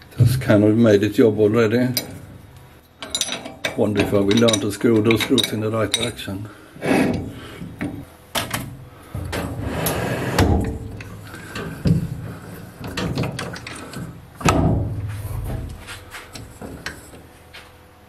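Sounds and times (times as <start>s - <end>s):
metal clanks and scrapes: 1.9s - 17.7s.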